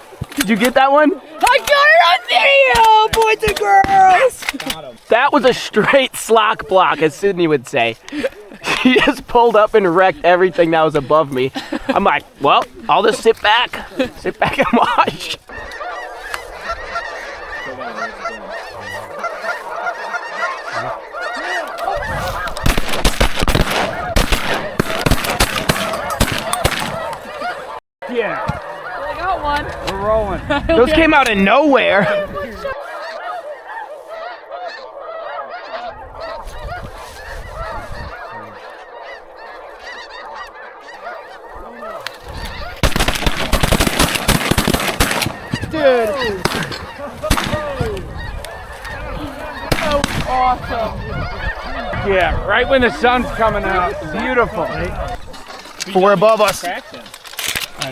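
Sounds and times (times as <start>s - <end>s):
geese honking: 0.0s - 57.9s.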